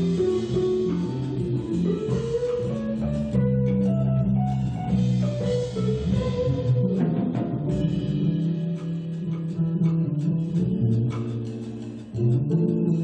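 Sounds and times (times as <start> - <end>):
drum kit: 0.0 - 13.0
electric bass: 0.0 - 13.0
electric guitar: 0.0 - 13.0.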